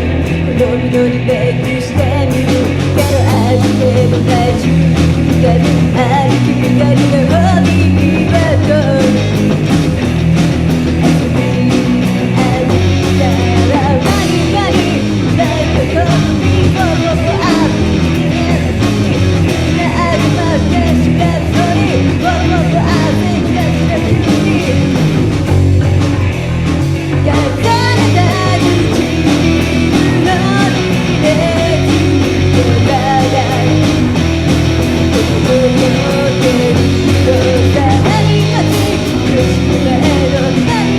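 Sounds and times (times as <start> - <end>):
rock song with guitar and vocal: 0.0 - 40.9.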